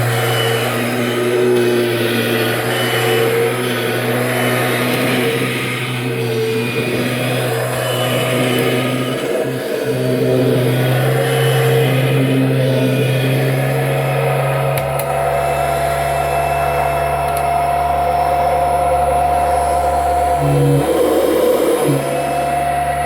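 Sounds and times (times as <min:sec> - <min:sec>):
upright vacuum cleaner running: 0:00.0 - 0:23.0.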